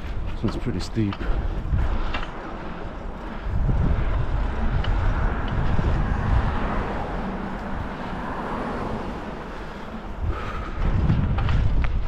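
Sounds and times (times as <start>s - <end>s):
road traffic noise: 0.0s - 12.0s
wind buffeting microphone: 0.0s - 12.0s.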